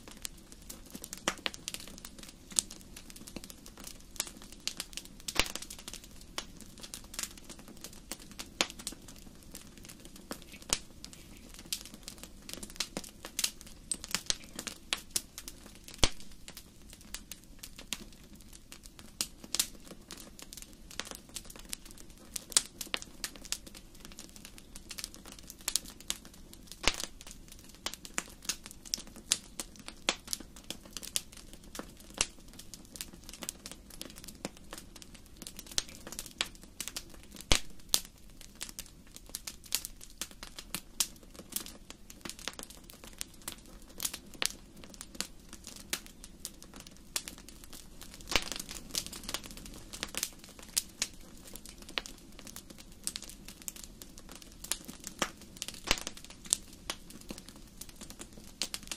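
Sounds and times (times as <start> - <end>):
low rushing of flames: 0.0 - 58.9
wood fire crackling: 0.0 - 58.9
sharp pops and snaps: 0.1 - 20.3, 20.9 - 58.9.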